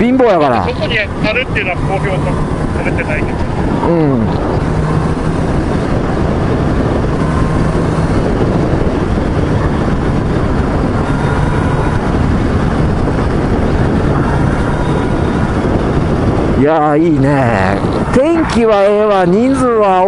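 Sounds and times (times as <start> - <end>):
motorcycle engine drone: 0.0 - 20.0
wind and road noise: 0.0 - 20.0.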